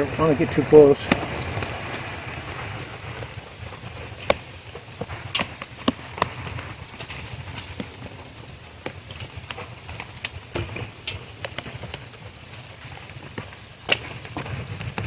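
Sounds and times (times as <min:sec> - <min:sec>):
campfire crackling and popping: 0:00.0 - 0:15.0
rain: 0:00.0 - 0:15.0
wind: 0:00.0 - 0:15.0.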